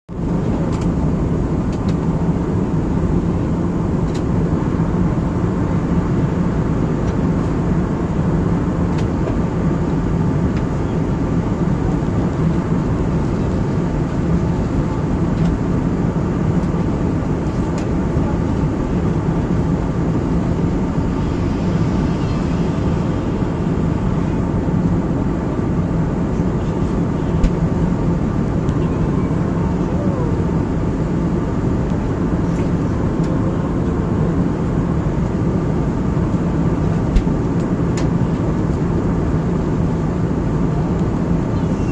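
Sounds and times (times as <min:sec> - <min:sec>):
airflow and jet engine rush: 0:00.1 - 0:41.9
constant low hum: 0:00.1 - 0:41.9.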